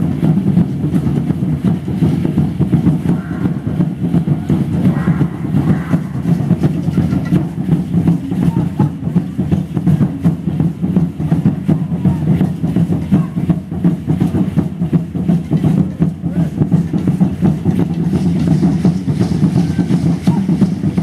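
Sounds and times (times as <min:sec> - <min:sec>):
ceremonial drumming: 0:00.0 - 0:21.0
crowd chatter: 0:00.0 - 0:21.0.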